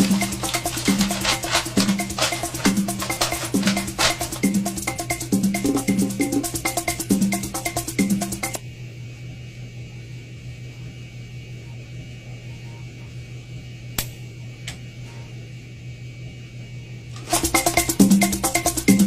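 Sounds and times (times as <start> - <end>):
cabin ventilation hum and hiss: 0.0 - 19.0.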